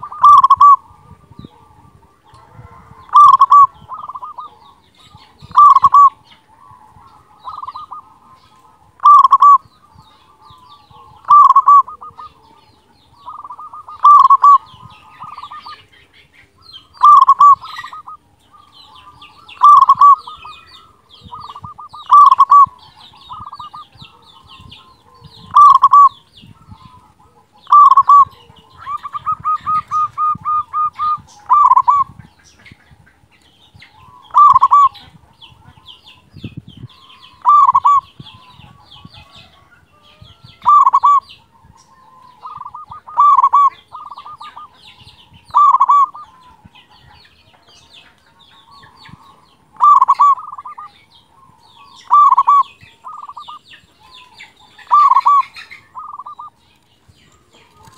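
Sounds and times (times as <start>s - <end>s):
dove cooing: 0.0s - 32.4s, 33.9s - 36.2s, 36.9s - 40.0s, 40.6s - 47.2s, 48.1s - 56.6s
birds chirping faintly: 0.0s - 57.9s.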